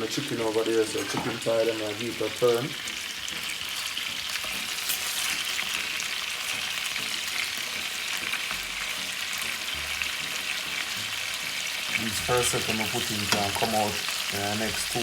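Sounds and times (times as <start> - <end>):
chicken sizzling in hot fat: 0.0 - 15.0.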